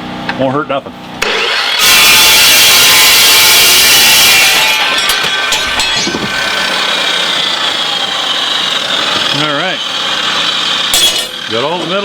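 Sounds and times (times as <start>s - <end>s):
metal saw cutting steel: 1.2s - 12.0s
saw blade whine: 1.2s - 12.0s.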